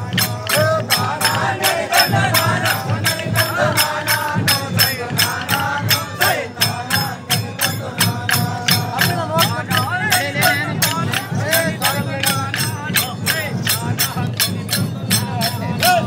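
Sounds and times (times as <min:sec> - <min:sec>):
voices chanting: 0:00.0 - 0:16.0.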